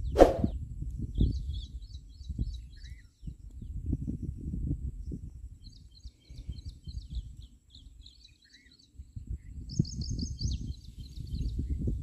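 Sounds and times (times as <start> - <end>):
gusty wind rumble on microphone: 0.0 - 8.3, 8.9 - 12.0
small birds chirping: 1.0 - 12.0.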